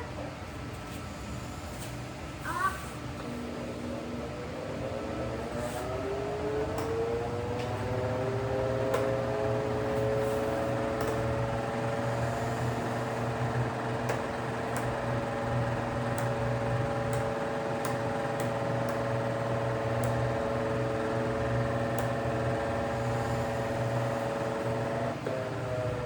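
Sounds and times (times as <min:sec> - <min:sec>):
electric fan motor hum: 0:00.0 - 0:26.0.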